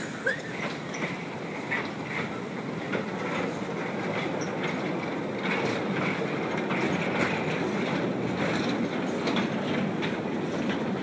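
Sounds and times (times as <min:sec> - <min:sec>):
train clattering over rail joints: 0:00.0 - 0:11.0.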